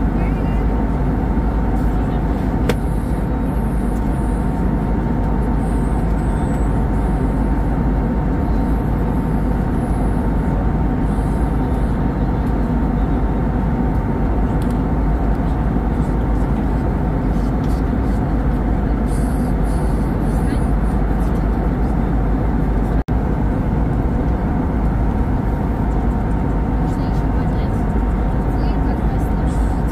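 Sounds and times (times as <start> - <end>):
airplane cabin engine rush: 0.0 - 29.9
faint steady whine: 0.0 - 29.9.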